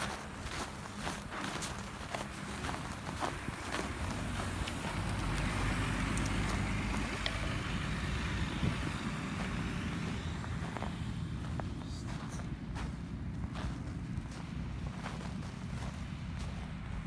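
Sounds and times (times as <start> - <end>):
road traffic rumble and hiss: 0.0 - 17.0.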